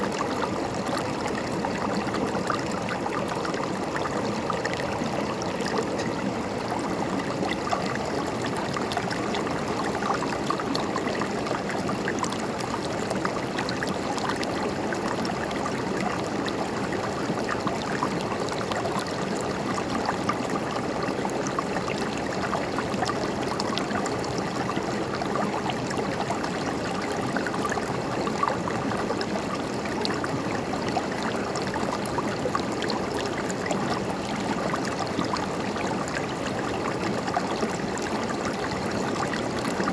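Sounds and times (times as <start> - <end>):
water gurgles and splashes: 0.0 - 39.9.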